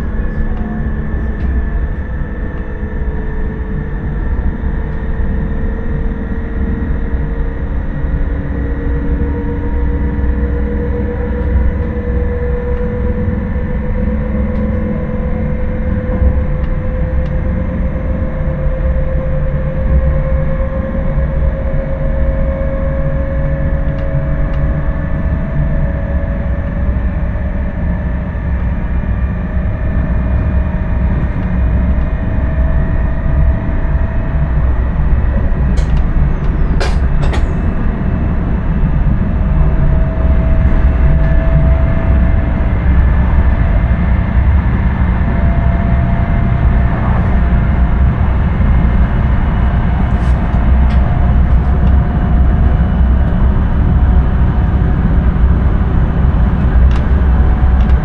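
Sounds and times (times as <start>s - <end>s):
train rumbling with rising whine: 0.0s - 58.0s.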